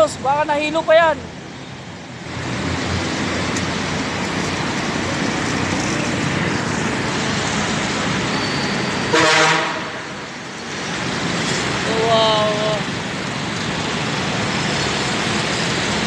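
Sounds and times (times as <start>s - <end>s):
traffic on wet street: 0.0s - 16.0s.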